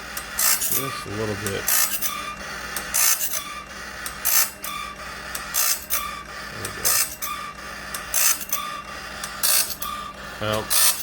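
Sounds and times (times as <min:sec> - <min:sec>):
grinding wheel scraping blade: 0:00.0 - 0:11.0
machine humming: 0:00.0 - 0:11.0.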